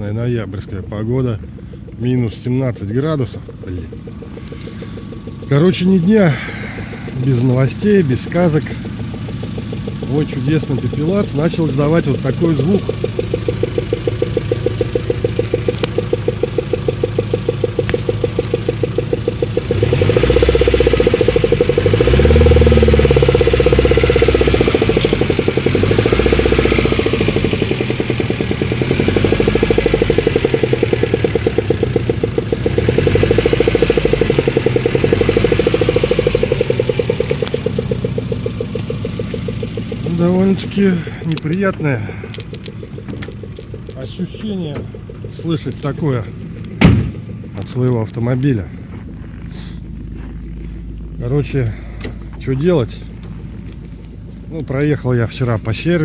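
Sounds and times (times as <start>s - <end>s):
engine knocking while revving: 0.0s - 56.0s.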